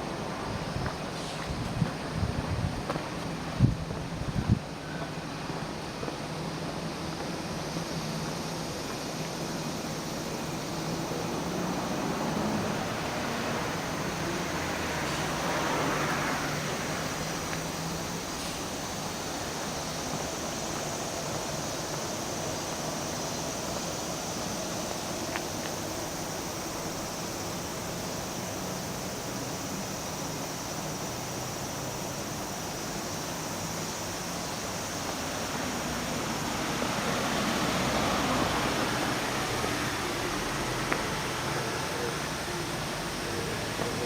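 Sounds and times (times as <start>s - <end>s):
outdoor background noise: 0.0s - 44.0s.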